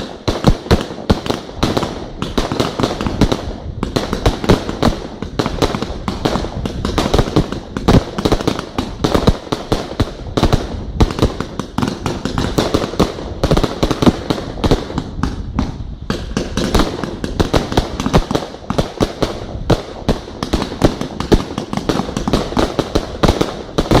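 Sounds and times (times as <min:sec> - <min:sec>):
firework crackle: 0:00.0 - 0:24.0
fireworks bursting: 0:00.0 - 0:24.0.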